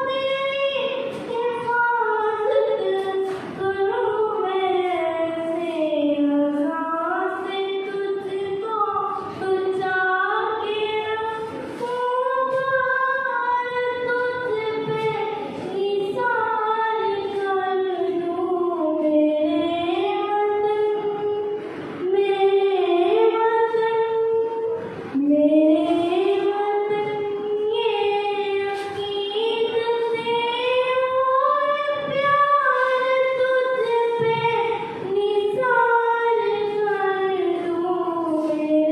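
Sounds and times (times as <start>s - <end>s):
girl singing unaccompanied: 0.0s - 38.9s.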